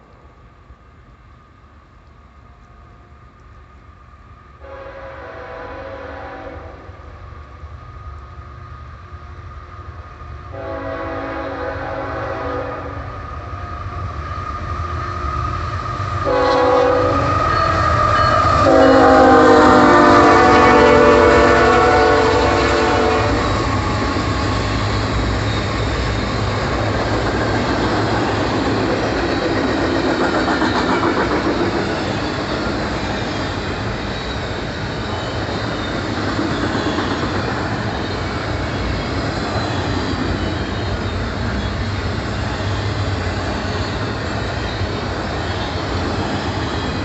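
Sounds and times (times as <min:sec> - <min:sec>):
freight train wheels rolling: 0:07.0 - 0:47.0.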